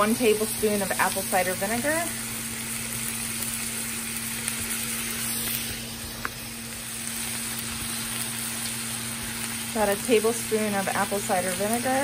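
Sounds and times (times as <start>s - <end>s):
liver and onions sizzling: 0.0s - 12.0s
low steady hum: 0.0s - 12.0s.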